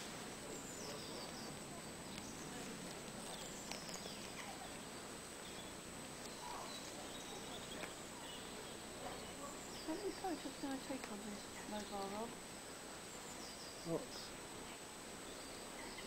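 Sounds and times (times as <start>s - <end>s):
small birds chirping: 0.0s - 16.0s
steady hiss: 0.0s - 16.0s.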